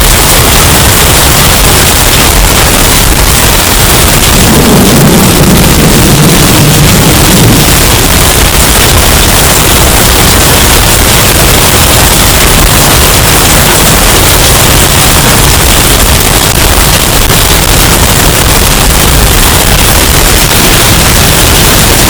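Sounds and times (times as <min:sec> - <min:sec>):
distorted hurricane wind roar: 0:00.0 - 0:22.0.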